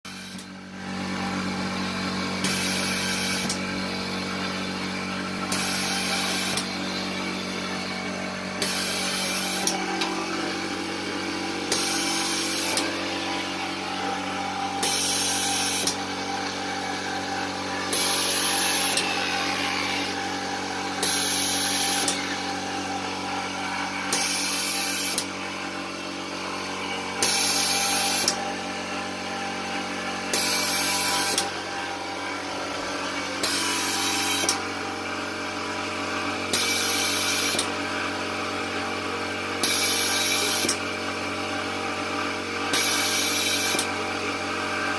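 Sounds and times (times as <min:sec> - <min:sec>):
ventilator motor hum: 0:00.1 - 0:44.9.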